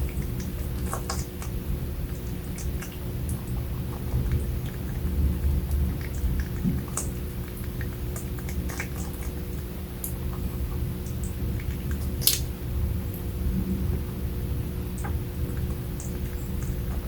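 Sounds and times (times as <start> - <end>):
steady low rumble: 0.0 - 8.4, 9.4 - 17.0
rabbits chewing: 0.0 - 14.2.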